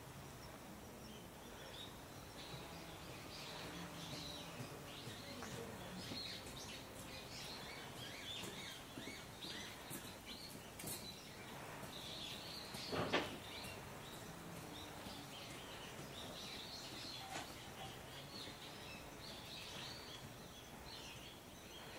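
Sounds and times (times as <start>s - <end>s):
outdoor background hum: 0.0s - 21.9s
small birds chirping: 0.0s - 21.9s.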